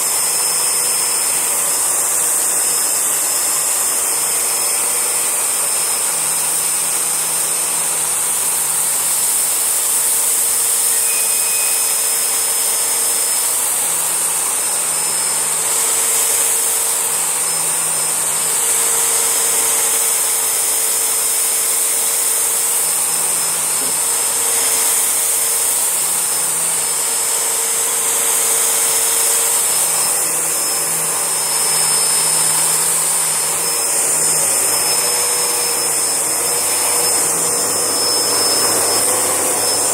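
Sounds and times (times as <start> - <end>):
vacuum cleaner sucking: 0.0 - 39.9.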